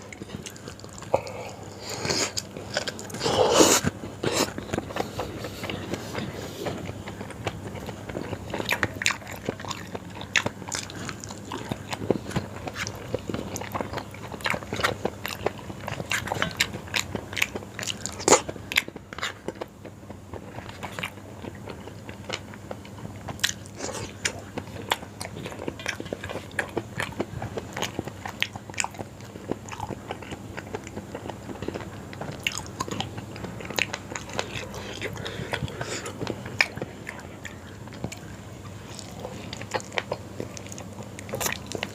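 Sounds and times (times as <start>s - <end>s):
close biting and chewing: 0.0s - 41.9s.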